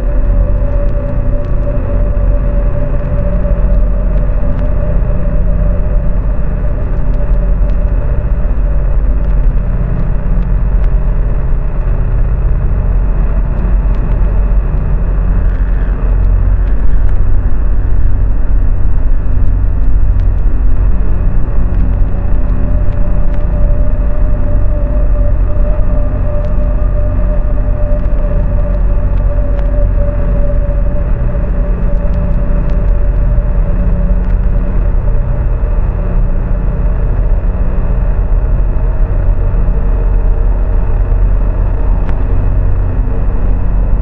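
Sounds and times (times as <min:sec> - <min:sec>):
car driving rumble: 0:00.0 - 0:44.0
faint crackles: 0:00.0 - 0:44.0
held hum: 0:00.0 - 0:44.0.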